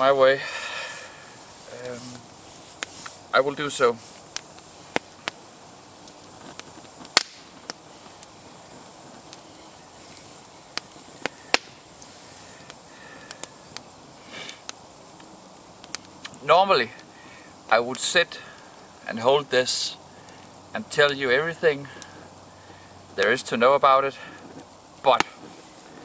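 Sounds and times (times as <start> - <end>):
campfire crackling: 0.0 - 26.0
fire popping: 0.0 - 26.0.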